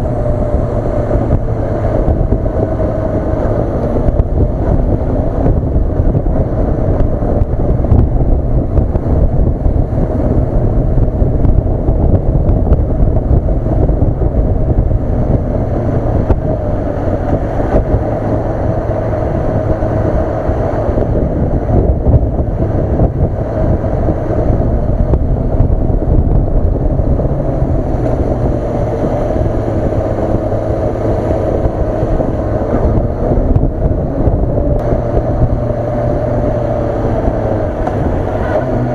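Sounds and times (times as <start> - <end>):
motorcycle engine cruising: 0.0 - 38.9
wind rushing over microphone: 0.0 - 38.9.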